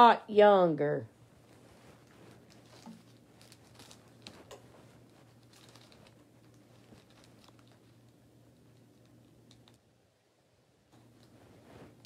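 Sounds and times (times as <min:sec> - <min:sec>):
soft clicks and rustles: 0:01.2 - 0:10.0, 0:10.8 - 0:12.0.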